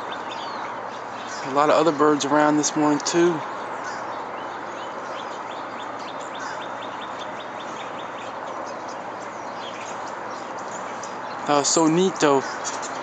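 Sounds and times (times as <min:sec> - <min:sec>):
small songbird chirping: 0:00.0 - 0:13.0.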